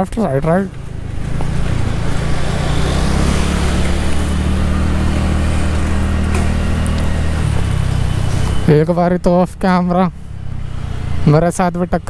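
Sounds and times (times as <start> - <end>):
scooter engine humming: 0.2 - 12.0.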